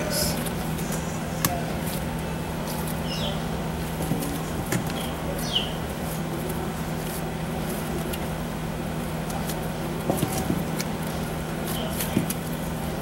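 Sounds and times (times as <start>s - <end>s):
steady low hum: 0.0s - 13.0s
dough tearing and squishing: 1.4s - 3.1s, 3.8s - 13.0s.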